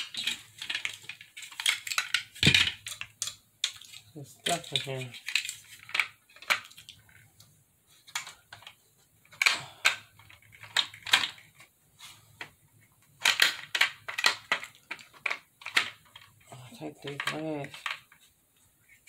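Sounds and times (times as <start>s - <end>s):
plastic parts clicking and rattling: 0.0s - 19.0s.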